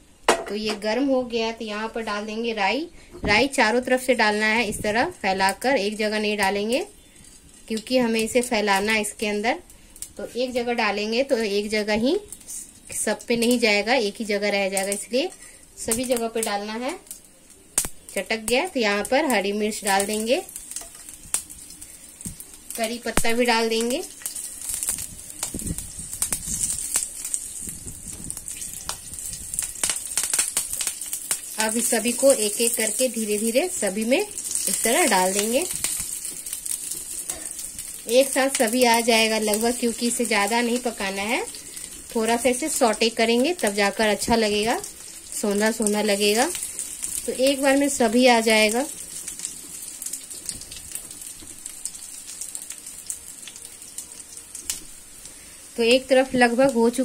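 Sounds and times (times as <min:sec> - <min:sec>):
hot oil sizzling in a pan: 0:00.0 - 0:57.0
mustard seeds crackling and popping: 0:03.2 - 0:57.0.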